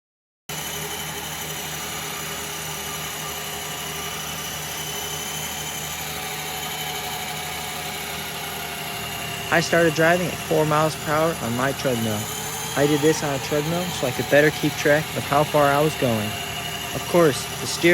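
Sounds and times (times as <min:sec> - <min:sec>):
treadmill mechanical hum: 0:00.5 - 0:17.9.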